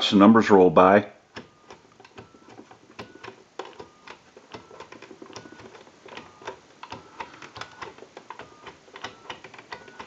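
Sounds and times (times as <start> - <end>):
telephone keypad clicks: 1.3 - 10.0
short dial beeps: 1.4 - 10.0.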